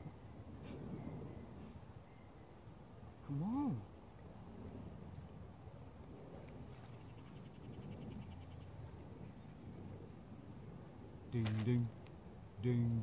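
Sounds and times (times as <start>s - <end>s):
faint insect chirping: 0.0s - 13.0s.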